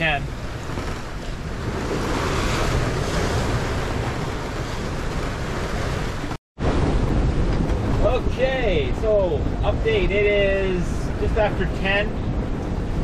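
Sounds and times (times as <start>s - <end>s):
waves rushing along boat hull: 0.0s - 13.0s
wind blowing across microphone: 0.0s - 13.0s.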